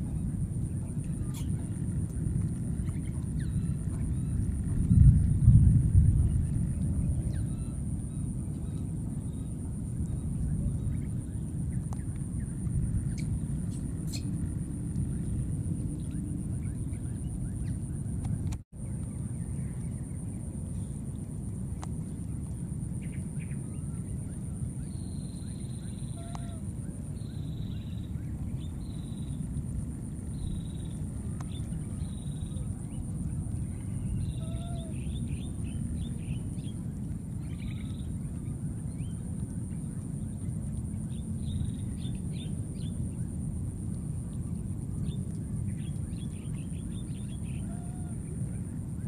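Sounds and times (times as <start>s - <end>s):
low rumbling noise: 0.0s - 49.0s.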